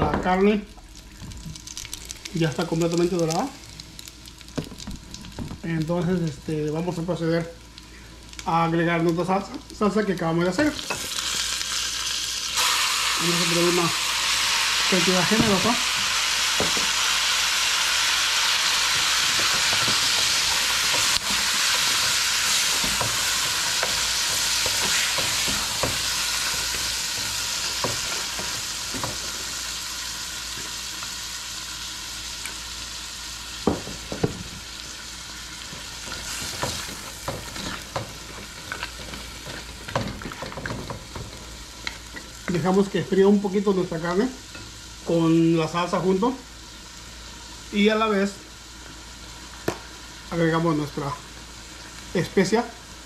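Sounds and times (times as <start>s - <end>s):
meat sizzling in hot fat: 0.3s - 53.0s.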